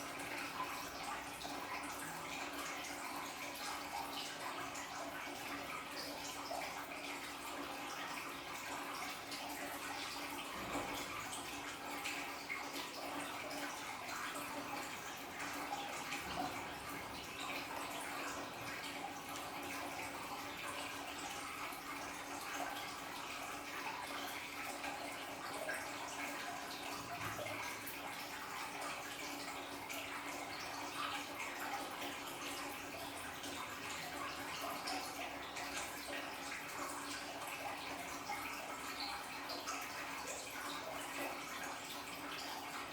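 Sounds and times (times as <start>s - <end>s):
water pouring into tank: 0.0s - 42.9s.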